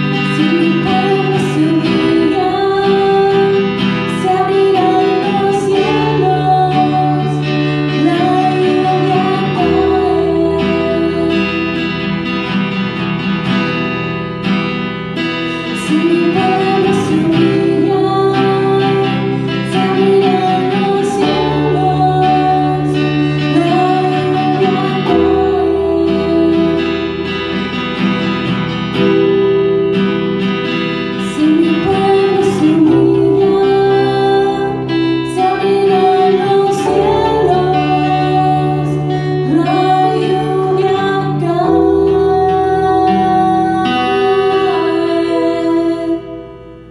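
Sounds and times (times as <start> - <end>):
woman singing: 0.0 - 12.5, 15.2 - 28.1, 31.0 - 46.9
acoustic guitar strumming: 0.0 - 46.9
keyboard: 0.0 - 46.9.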